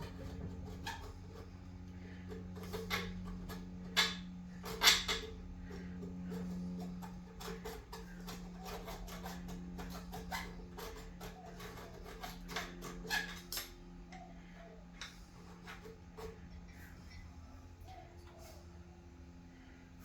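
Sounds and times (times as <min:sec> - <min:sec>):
hand file rasping on metal: 0:00.0 - 0:18.6.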